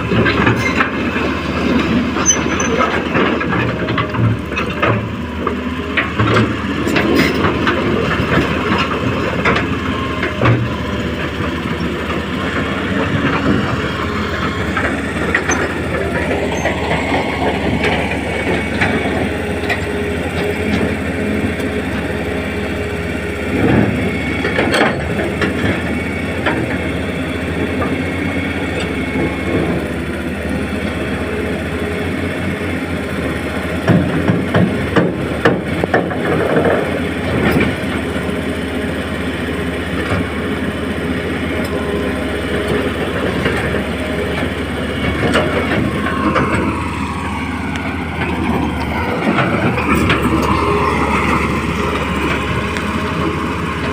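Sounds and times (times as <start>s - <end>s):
excavator motors whirring: 0.0s - 53.9s.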